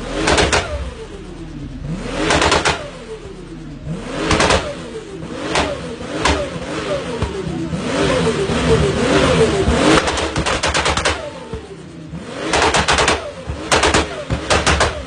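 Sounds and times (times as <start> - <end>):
turbocharged engine revving: 0.0 - 15.0.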